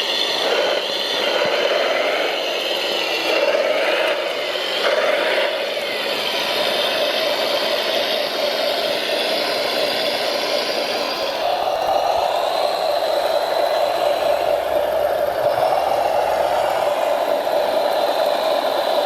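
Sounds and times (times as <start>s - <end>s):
remote control machine whirring: 0.0s - 19.0s.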